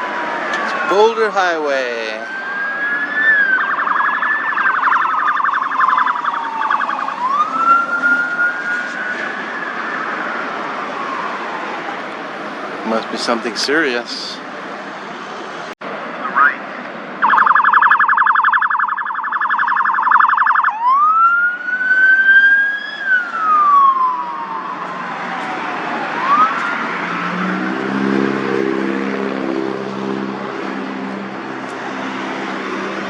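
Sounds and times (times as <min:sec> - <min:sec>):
emergency siren: 0:00.0 - 0:13.3, 0:16.2 - 0:33.0
traffic noise: 0:00.0 - 0:33.0.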